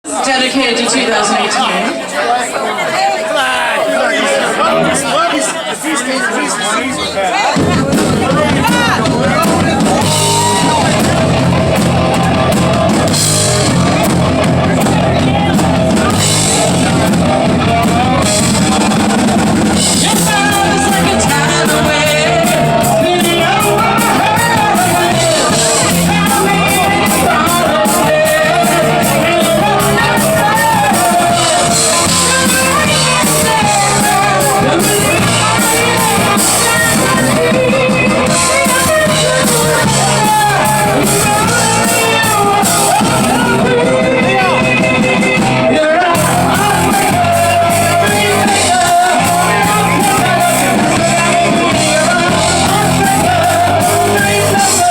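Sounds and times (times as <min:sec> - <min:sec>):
crowd shouting: 0:00.0 - 0:54.9
live rock band playing: 0:06.8 - 0:54.9
person singing: 0:08.4 - 0:54.9.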